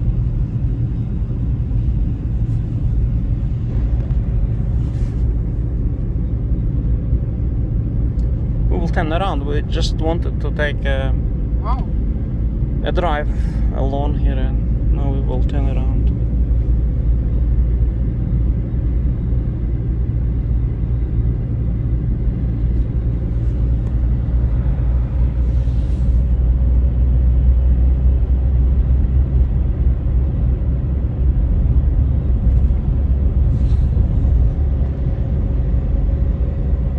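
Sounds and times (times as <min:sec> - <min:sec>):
car interior road rumble: 0:00.0 - 0:36.9.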